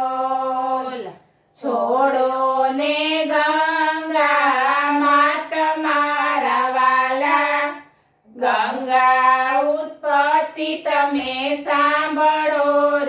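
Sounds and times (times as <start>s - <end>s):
women singing devotional song: 0.0s - 13.0s.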